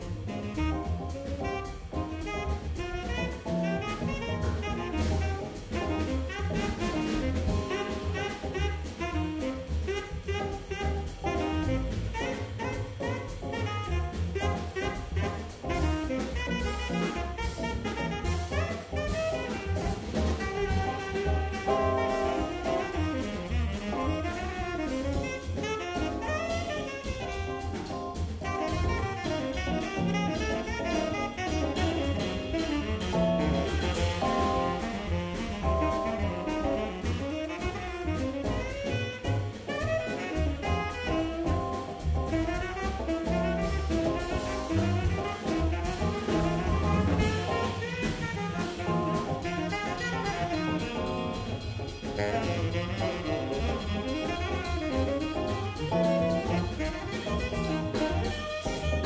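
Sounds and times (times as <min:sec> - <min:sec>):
drum kit with cymbals: 0:00.0 - 0:59.0
electric piano: 0:00.0 - 0:59.0
upright bass: 0:00.0 - 0:59.0
tenor saxophone: 0:00.1 - 0:59.0.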